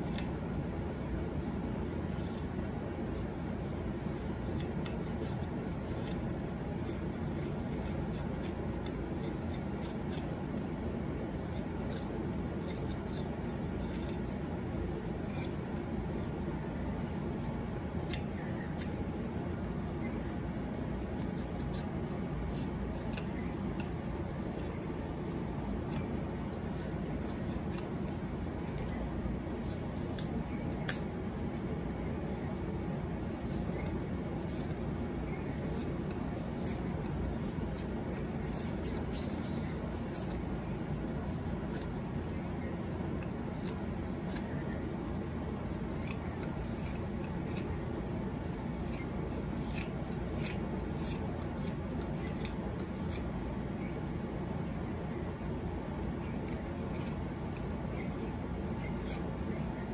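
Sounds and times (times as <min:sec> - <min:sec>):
knife scraping wood: 0:00.0 - 0:32.4, 0:33.0 - 0:54.3, 0:55.4 - 0:59.9
low background noise: 0:00.0 - 0:59.9.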